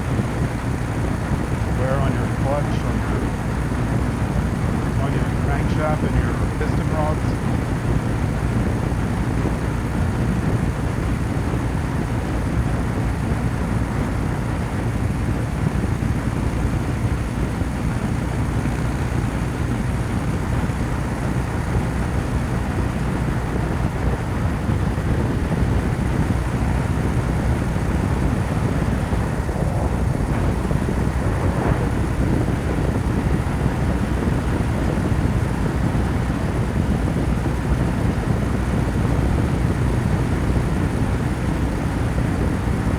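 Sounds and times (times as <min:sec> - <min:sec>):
motorcycle engine droning: 0:00.0 - 0:42.9.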